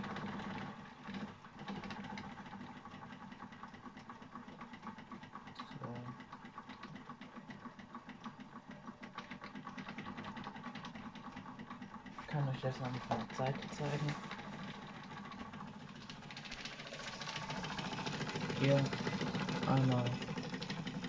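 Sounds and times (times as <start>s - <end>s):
toy steam engine clattering: 0.0s - 21.0s.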